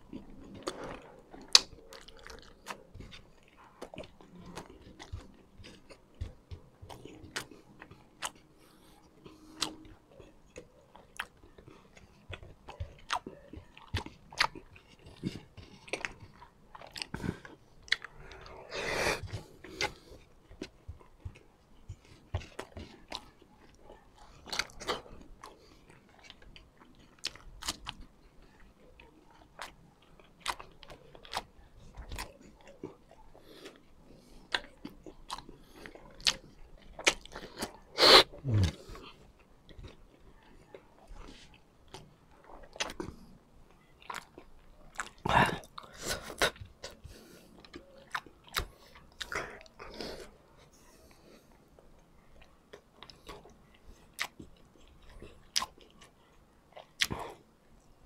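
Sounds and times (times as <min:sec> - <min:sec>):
man chewing and crunching food: 0:00.0 - 0:58.0.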